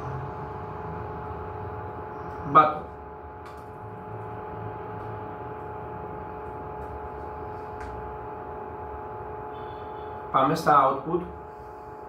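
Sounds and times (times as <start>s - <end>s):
mechanical room hum: 0.0s - 12.0s.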